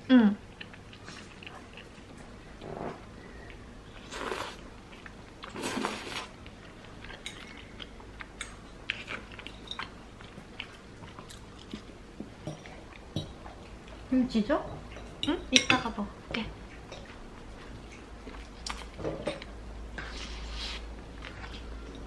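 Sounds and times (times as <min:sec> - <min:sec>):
chewing with mouth clicks: 0:00.5 - 0:14.0, 0:16.7 - 0:22.0.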